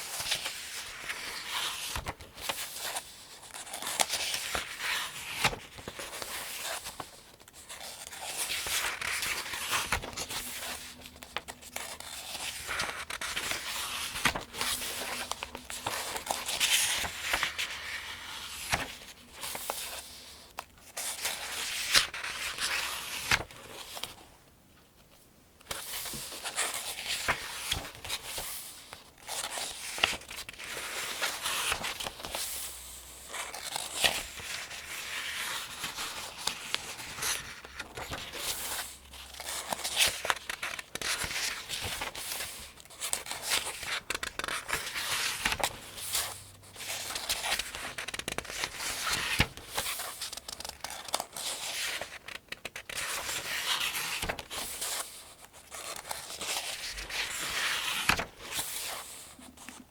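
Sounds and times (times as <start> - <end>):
paper pages turning: 0.0 - 24.2, 25.7 - 59.8.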